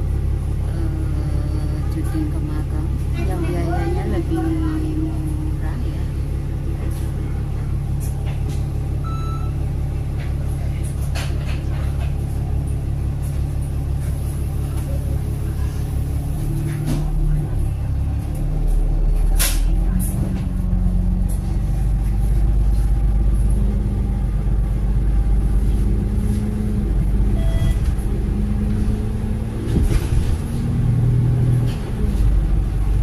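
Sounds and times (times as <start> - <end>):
bus engine rumbling: 0.0 - 33.0.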